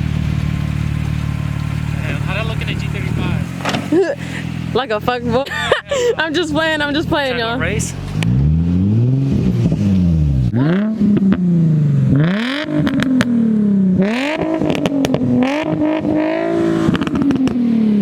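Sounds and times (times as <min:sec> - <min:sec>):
car engine revving unevenly: 0:00.0 - 0:18.0.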